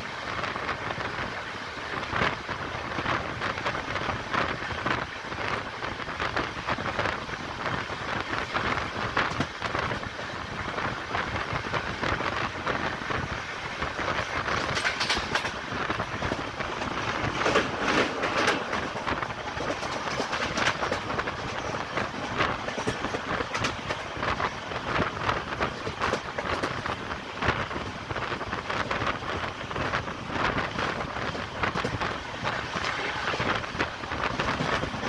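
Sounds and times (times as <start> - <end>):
train rolling noise and wind: 0.0 - 35.0
wheels clattering on rails: 0.0 - 35.0.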